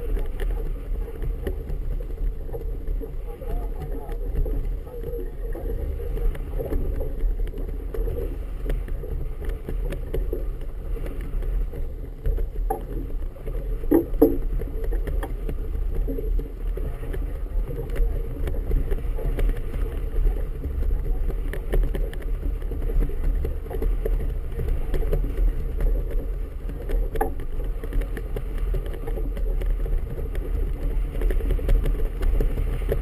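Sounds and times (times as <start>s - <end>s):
water lapping against a hull: 0.0s - 33.0s
wind rumble on microphone: 0.0s - 33.0s.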